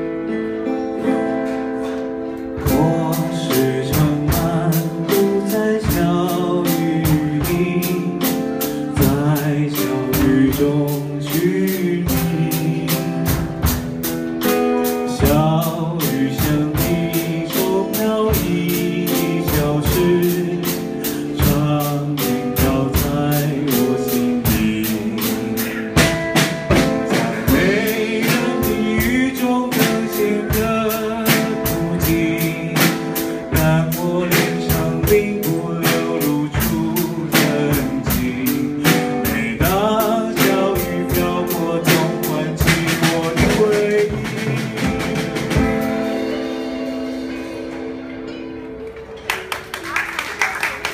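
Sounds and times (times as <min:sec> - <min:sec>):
man singing: 0:00.0 - 0:46.4
drums keeping steady beat: 0:00.0 - 0:48.4
acoustic guitar strumming: 0:00.0 - 0:49.3.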